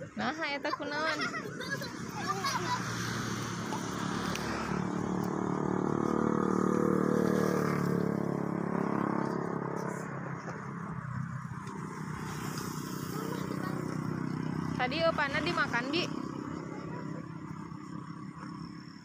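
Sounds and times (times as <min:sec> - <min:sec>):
vehicle engine passing: 0:01.5 - 0:19.0.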